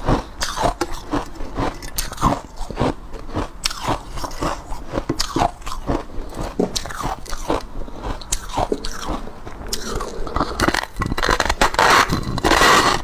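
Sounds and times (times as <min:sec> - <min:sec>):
person crunching ice: 0:00.0 - 0:13.0.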